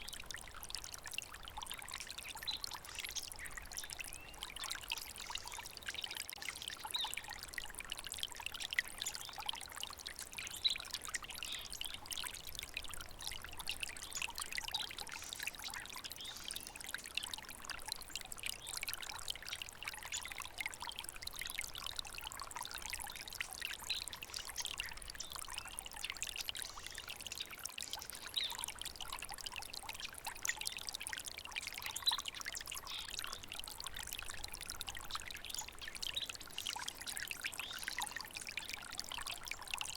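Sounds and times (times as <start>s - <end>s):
water stream trickling: 0.0s - 39.9s.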